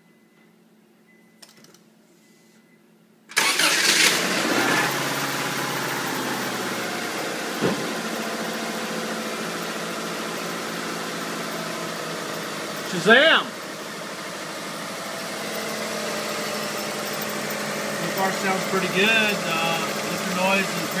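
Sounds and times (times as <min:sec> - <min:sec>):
car engine starting and idling: 0:03.3 - 0:21.0.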